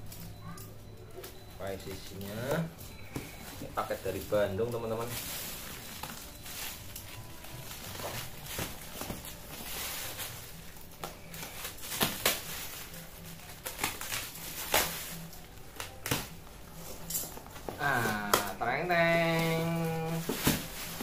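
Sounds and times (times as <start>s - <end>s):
plastic wrapping rustling: 0.0s - 21.0s.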